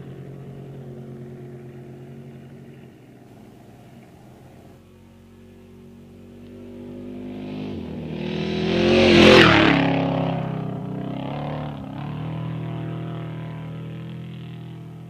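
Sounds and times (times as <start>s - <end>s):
truck engine passing at speed: 0.0s - 15.0s.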